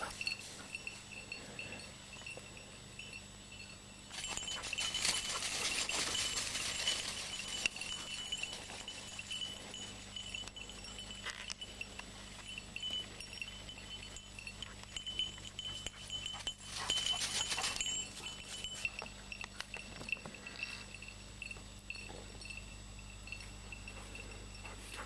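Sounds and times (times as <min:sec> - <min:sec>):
small bell tinkling: 0:00.0 - 0:25.0.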